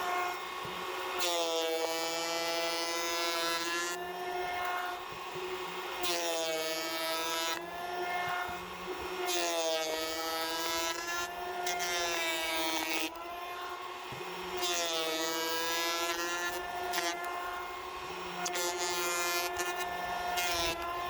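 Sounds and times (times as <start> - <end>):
electric planer motor whine: 0.0 - 21.0
planer blades cutting wood: 0.0 - 21.0.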